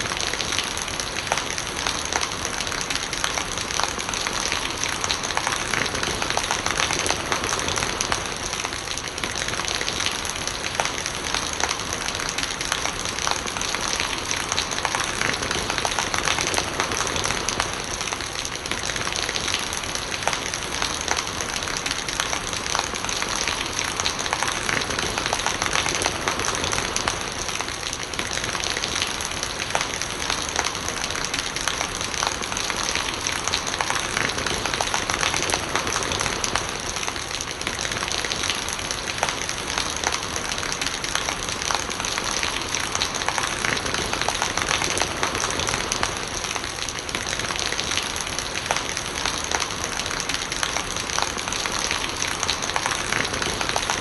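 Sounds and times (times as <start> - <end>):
rainwater gurgling: 0.0 - 54.0
steady rain: 0.0 - 54.0.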